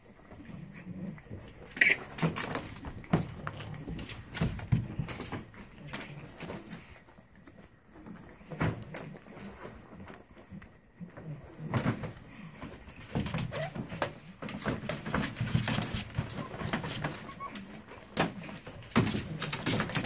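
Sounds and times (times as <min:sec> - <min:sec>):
puppies scuffling in plastic pool: 0:00.0 - 0:20.0.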